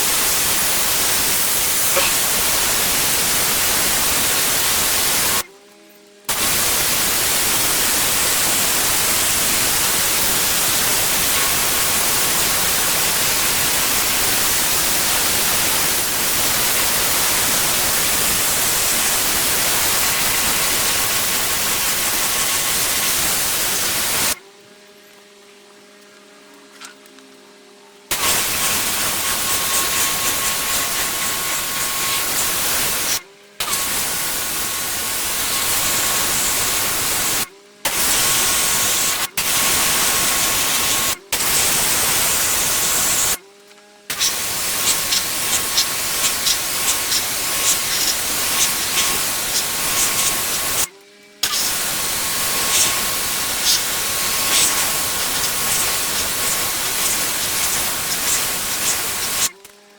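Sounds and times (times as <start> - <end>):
crackling in water spray: 0.0 - 5.4, 6.3 - 24.4, 28.1 - 43.4, 44.1 - 59.6
pressure washer spraying: 0.0 - 5.4, 6.3 - 24.4, 28.1 - 43.4, 44.1 - 59.6.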